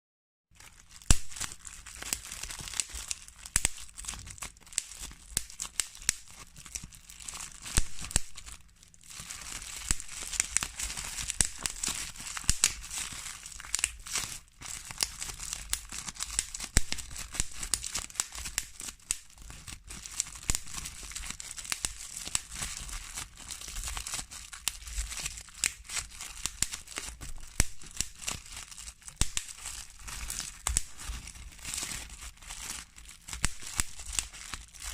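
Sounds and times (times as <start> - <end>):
bubble wrap popping: 0.5 - 34.9
plastic sheet crinkling: 0.5 - 34.9.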